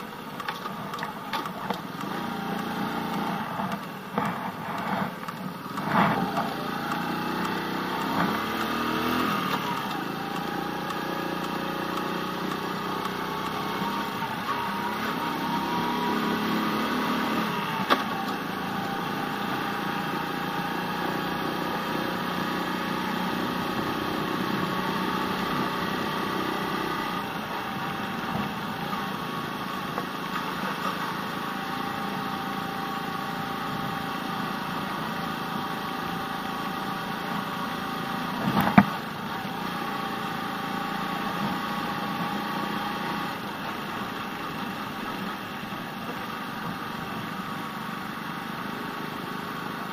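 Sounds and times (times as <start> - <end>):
moped engine running: 0.0 - 49.9.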